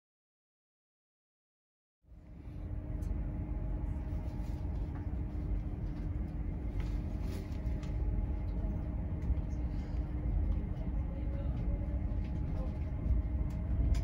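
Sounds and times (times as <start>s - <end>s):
steady hum: 2.1s - 14.0s
train running rumble: 2.1s - 14.0s.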